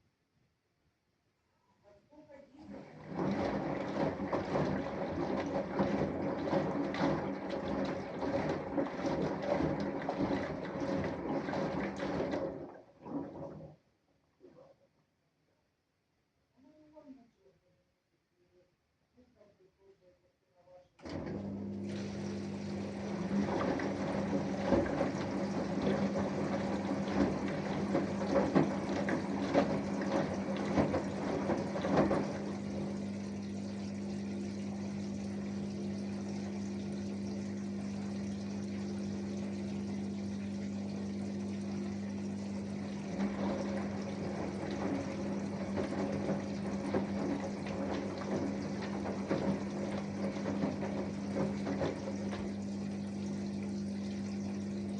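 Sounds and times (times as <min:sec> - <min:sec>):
washing machine pump humming: 0:02.5 - 0:13.8, 0:21.0 - 0:54.9.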